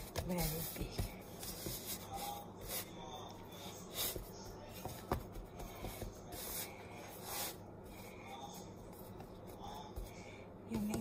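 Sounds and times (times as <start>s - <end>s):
hands rubbing dough: 0.0s - 11.0s.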